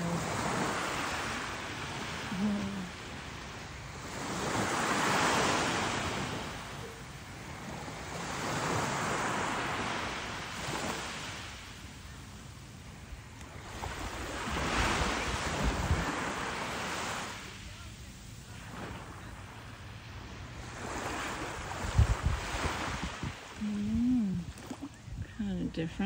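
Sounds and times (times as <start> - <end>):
small waves breaking on beach: 0.0 - 25.2.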